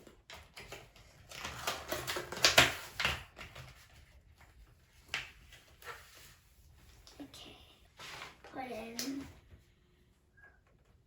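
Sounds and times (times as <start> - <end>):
rustling and scraping handling: 0.3 - 9.8.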